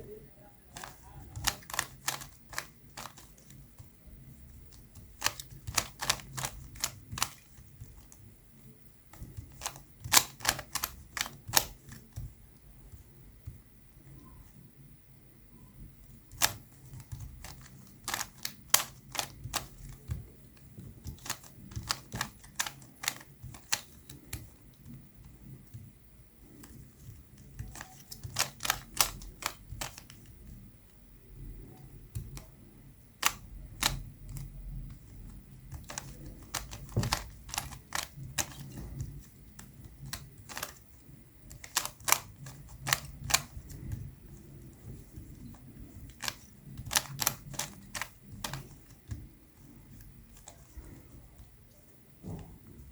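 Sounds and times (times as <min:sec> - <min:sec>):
rubik's cube clicking: 0:00.7 - 0:08.3, 0:09.1 - 0:12.3, 0:16.2 - 0:25.6, 0:26.5 - 0:30.7, 0:32.1 - 0:50.8.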